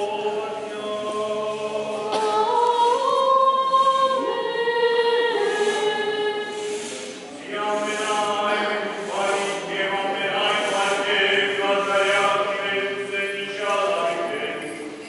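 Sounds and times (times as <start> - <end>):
women's choir chanting: 0.0 - 13.4.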